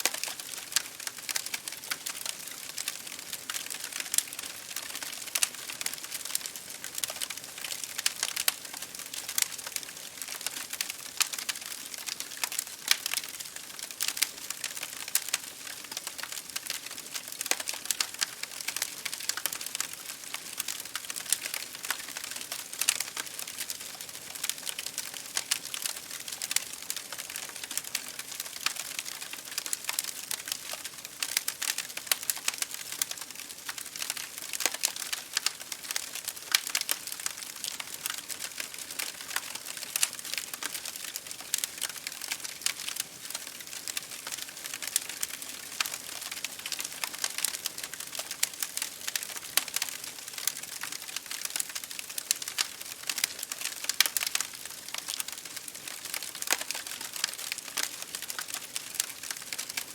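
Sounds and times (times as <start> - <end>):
rain on window glass: 0.0 - 59.9
wood fire crackling: 0.0 - 59.9.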